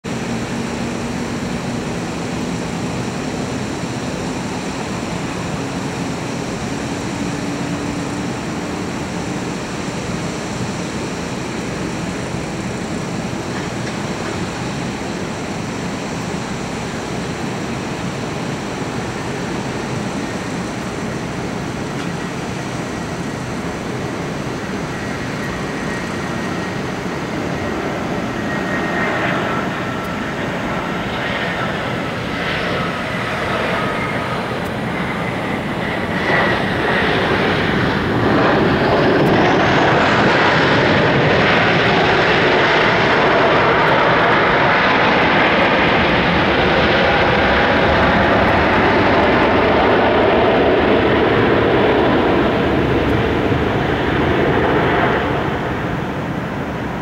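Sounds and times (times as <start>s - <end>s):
airliner jet engines rushing: 0.0s - 57.0s.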